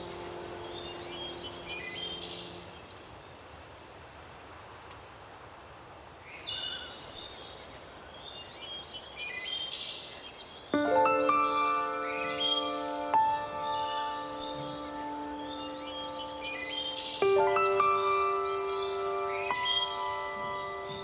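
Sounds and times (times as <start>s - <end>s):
songbirds chirping: 0.0s - 3.6s, 6.3s - 21.0s
soft even hiss: 0.0s - 21.0s.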